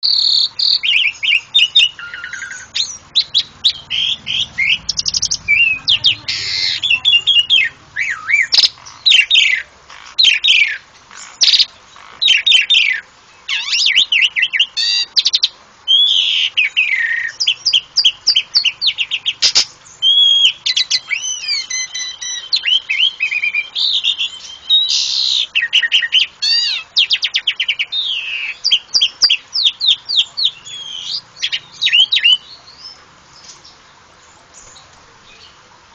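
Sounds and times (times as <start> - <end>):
starling singing: 0.0 - 35.6.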